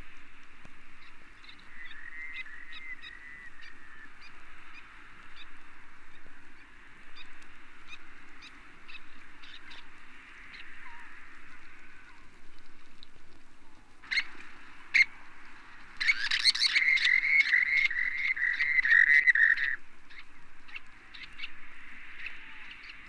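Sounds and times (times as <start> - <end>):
steady hiss: 0.0 - 23.0
sandpiper calling: 0.9 - 13.1, 14.0 - 23.0.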